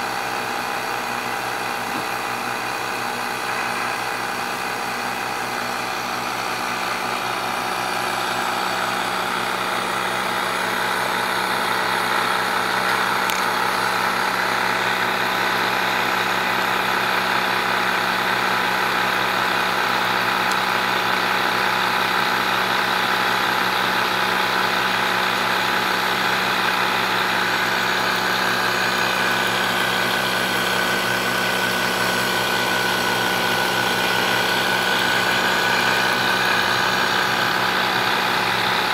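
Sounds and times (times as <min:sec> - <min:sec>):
motor hum and whine: 0:00.0 - 0:38.9.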